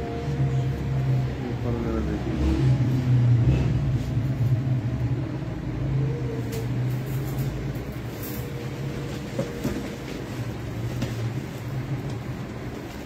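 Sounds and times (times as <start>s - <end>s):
low hum with rumble: 0.0s - 13.0s.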